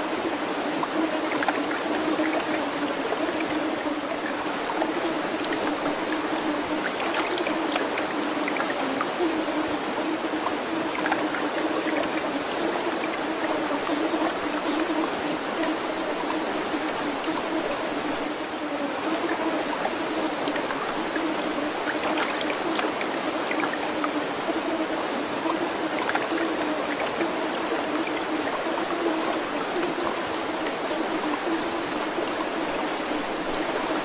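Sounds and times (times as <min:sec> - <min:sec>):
running water: 0:00.0 - 0:34.0.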